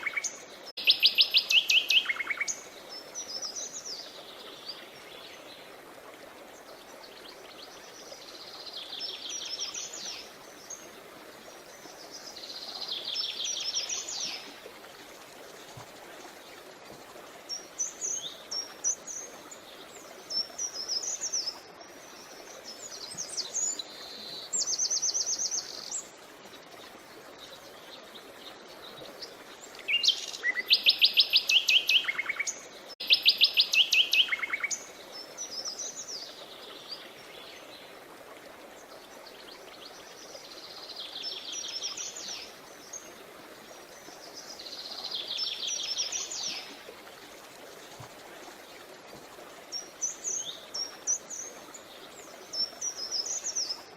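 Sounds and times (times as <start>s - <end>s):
creek rushing: 0.0s - 53.9s.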